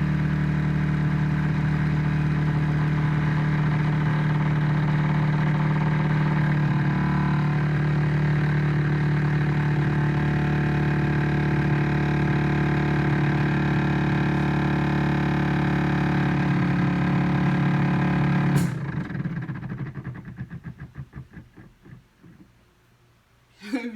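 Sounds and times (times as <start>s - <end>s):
pulsing rattle of motor: 0.0s - 22.5s.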